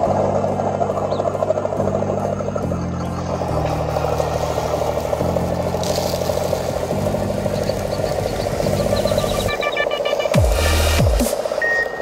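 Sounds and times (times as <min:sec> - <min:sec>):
simulated engine drone: 0:00.0 - 0:11.6.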